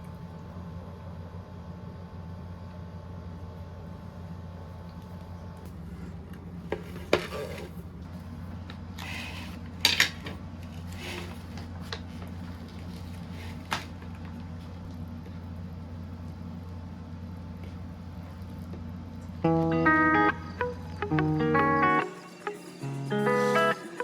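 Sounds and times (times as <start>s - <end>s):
steady low hum: 0.0s - 22.1s.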